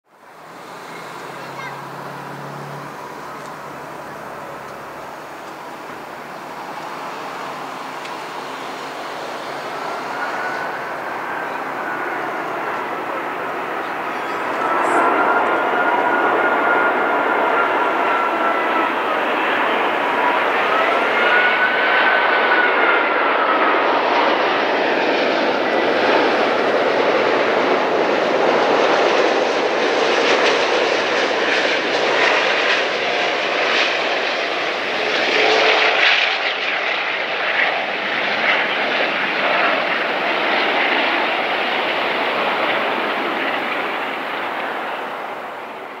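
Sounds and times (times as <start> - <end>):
jet airliner landing: 0.1 - 46.0
jet engine whine: 0.1 - 46.0.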